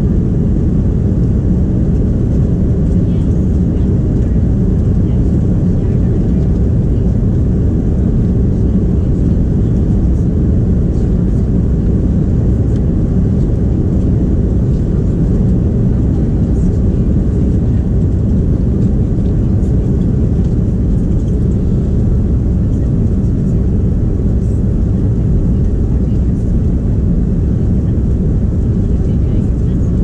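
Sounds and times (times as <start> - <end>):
airplane cabin engine roar: 0.0 - 30.0.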